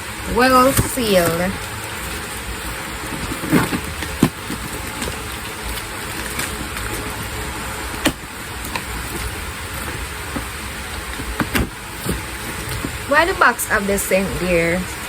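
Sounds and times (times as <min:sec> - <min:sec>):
low background rumble and hiss: 0:00.0 - 0:15.0
packaging snapping and crackling: 0:00.6 - 0:13.1.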